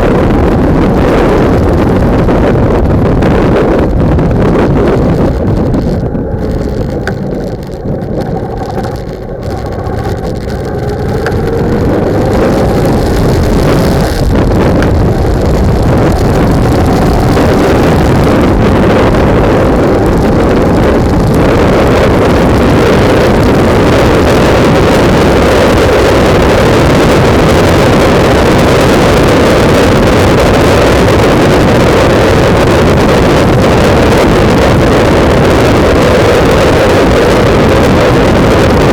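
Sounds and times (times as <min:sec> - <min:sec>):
wind buffeting microphone: 0:00.0 - 0:38.9
motorcycle engine revving: 0:03.3 - 0:38.9.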